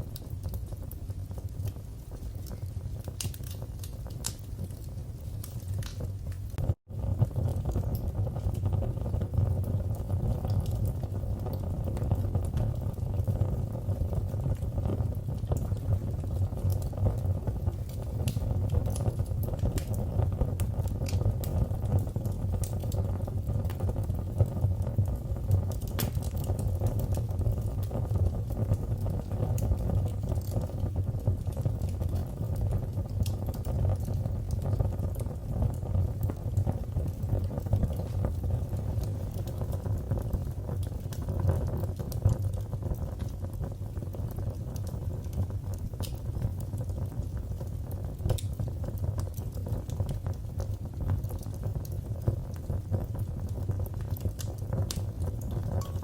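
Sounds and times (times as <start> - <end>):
fire crackles and pops: 0.0 - 56.0
fire flames rumbling: 0.0 - 56.0.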